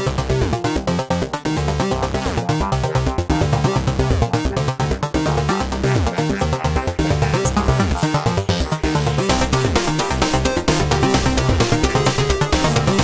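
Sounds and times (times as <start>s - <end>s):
upbeat instrumental music: 0.0s - 13.0s.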